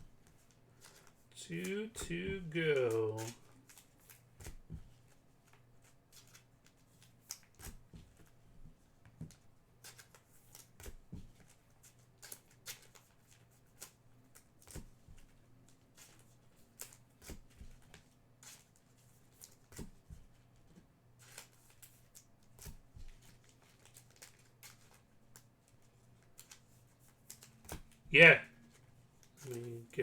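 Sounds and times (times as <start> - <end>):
trading cards rustling and flicking: 0.1 - 8.4, 9.2 - 30.0.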